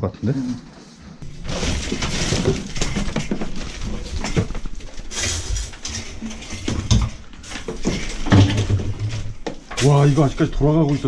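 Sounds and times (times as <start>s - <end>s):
plastic bags rustling: 0.6s - 11.0s.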